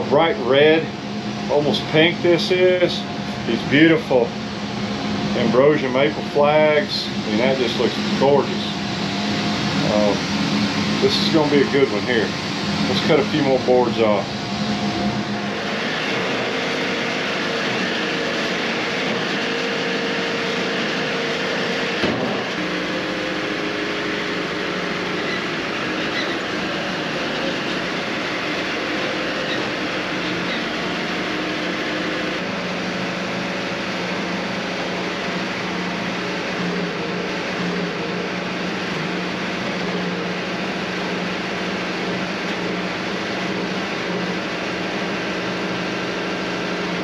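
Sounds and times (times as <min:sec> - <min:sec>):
sawmill cutting a log: 0:00.0 - 0:47.0.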